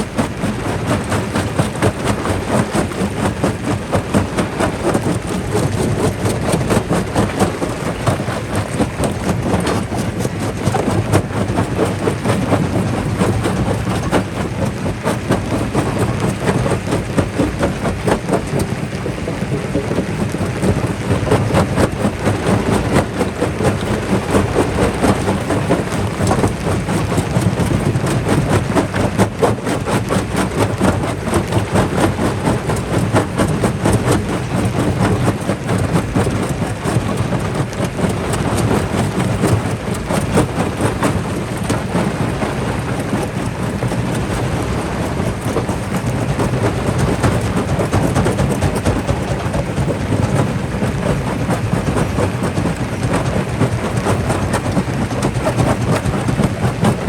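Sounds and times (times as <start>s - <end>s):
rock crusher rumbling: 0.0s - 57.0s.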